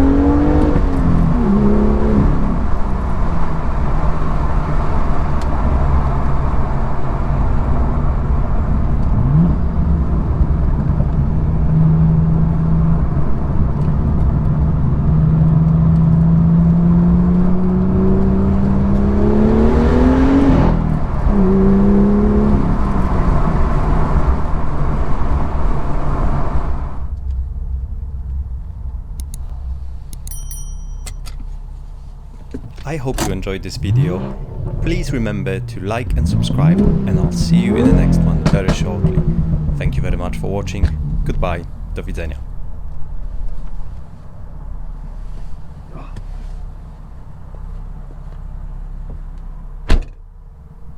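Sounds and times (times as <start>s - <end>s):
car engine revving under way: 0.0s - 27.1s, 32.2s - 45.9s.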